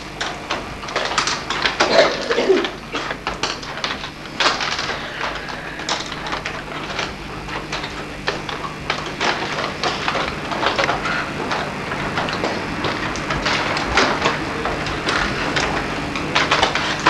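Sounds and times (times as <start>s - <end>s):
small plastic pieces clicking: 0.2s - 17.0s.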